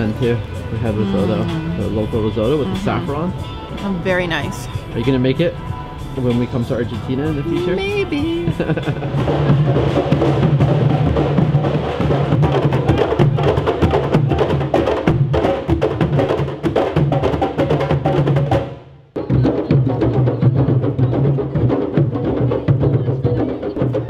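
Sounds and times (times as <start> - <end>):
low drum beats: 0.0 - 24.0.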